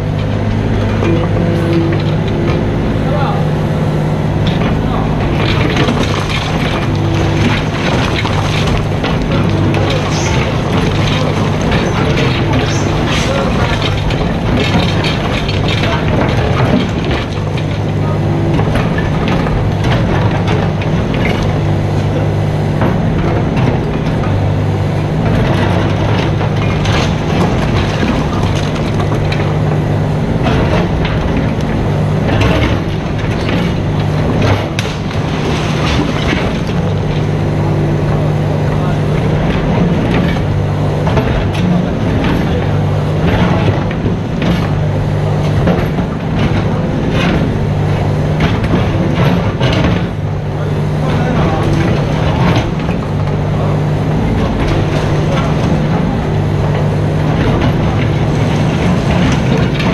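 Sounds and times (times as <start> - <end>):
excavator diesel engine running: 0.0 - 59.9
machine clanks and knocks: 0.0 - 59.9.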